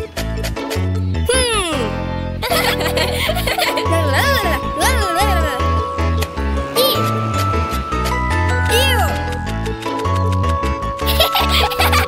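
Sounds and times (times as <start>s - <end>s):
cartoon background music: 0.0s - 12.0s.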